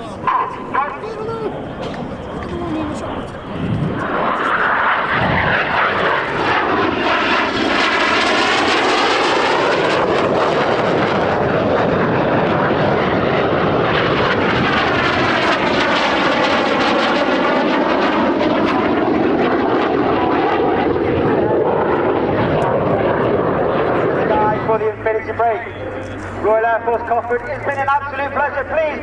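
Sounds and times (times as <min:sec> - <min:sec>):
jet engines roaring overhead: 0:00.0 - 0:29.0.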